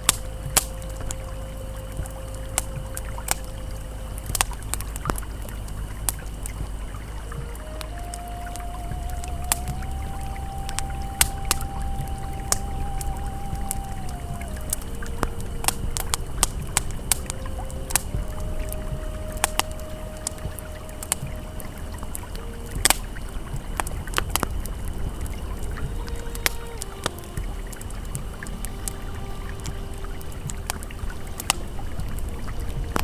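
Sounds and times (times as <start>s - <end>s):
campfire crackling and popping: 0.0s - 33.0s
river flowing: 0.0s - 33.0s
soft ambient tones: 0.0s - 33.0s.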